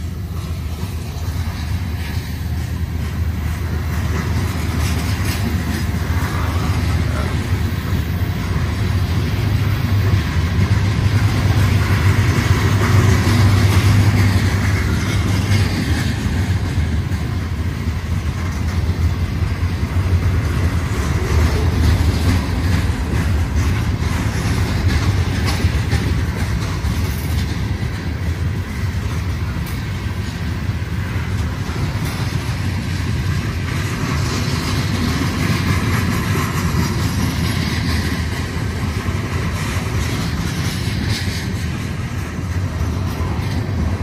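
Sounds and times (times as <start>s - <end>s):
steel train wheels rumbling on rails: 0.0s - 44.0s.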